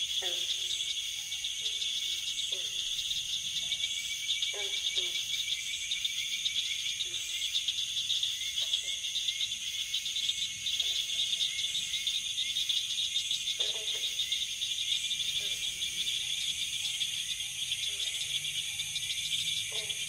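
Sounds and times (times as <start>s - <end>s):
crickets chirping: 0.0s - 20.0s
faint lower insect calls: 0.0s - 20.0s.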